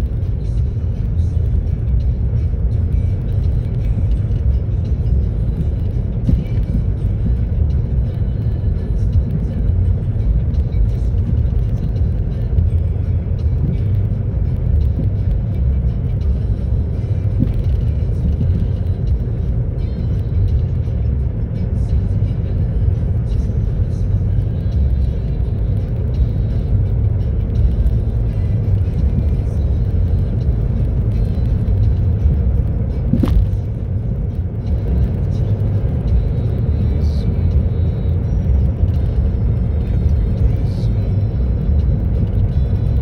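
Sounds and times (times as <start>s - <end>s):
tyre and road noise: 0.0s - 43.0s.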